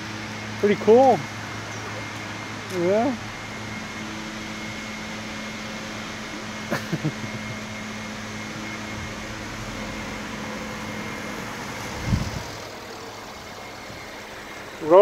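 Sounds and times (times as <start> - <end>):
car engine idling hum: 0.0 - 15.0.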